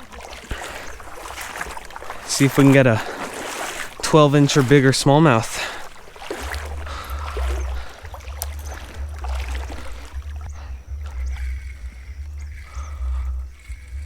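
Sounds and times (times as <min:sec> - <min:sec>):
river water rushing: 0:00.0 - 0:14.0
wind buffeting microphone: 0:00.0 - 0:14.0.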